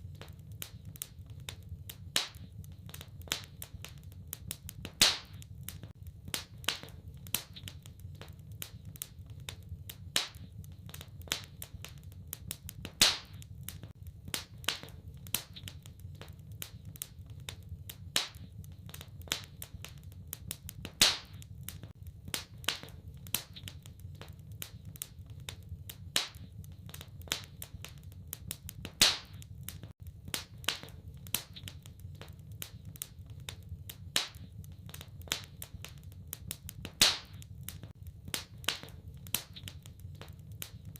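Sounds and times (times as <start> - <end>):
loud fire pops: 0.0 - 40.9
wood fire crackling: 0.0 - 40.9.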